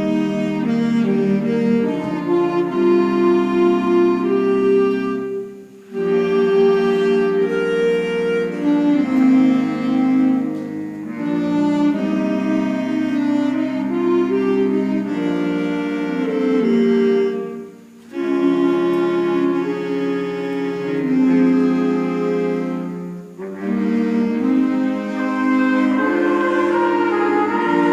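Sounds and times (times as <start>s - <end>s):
woodwind band playing chords: 0.0s - 27.9s.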